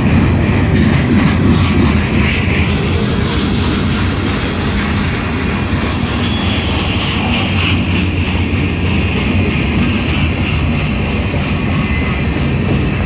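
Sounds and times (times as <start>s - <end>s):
freight cars rumbling past: 0.0s - 13.0s.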